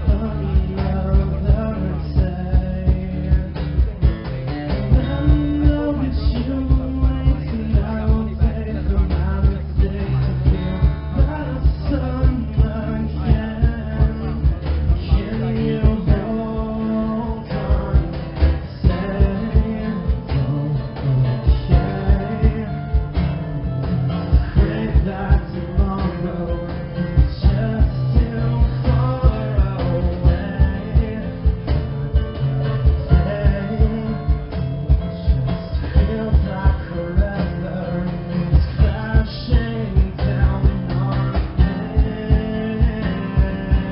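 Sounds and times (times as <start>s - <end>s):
lead vocal singing: 0.0s - 4.0s, 4.7s - 43.9s
acoustic guitars: 0.0s - 43.9s
steady beat: 0.0s - 43.9s.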